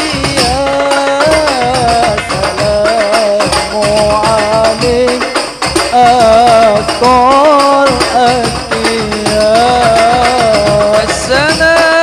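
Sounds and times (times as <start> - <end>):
steady percussion rhythm: 0.0 - 12.0.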